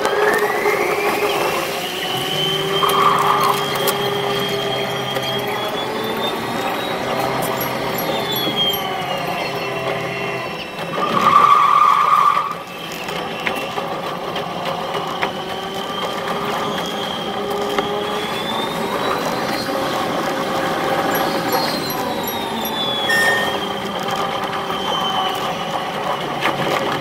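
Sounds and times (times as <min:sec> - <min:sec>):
electric train motor whine: 0:00.0 - 0:27.0.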